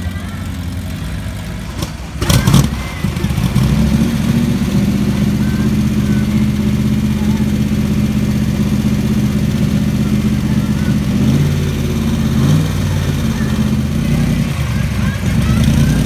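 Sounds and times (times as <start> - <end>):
car engine idling: 0.0 - 16.0
car engine starting with rev: 0.0 - 16.0.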